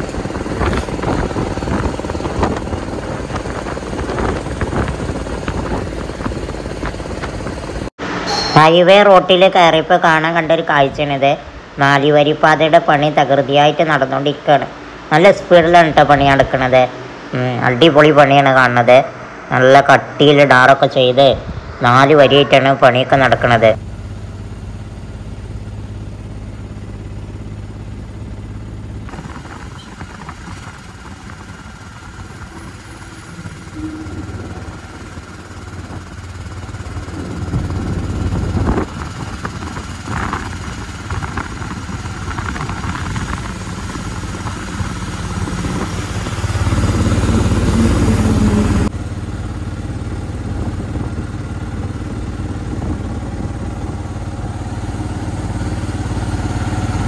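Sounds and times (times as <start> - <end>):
auto-rickshaw engine running: 0.0 - 57.0
road and traffic noise: 0.0 - 57.0.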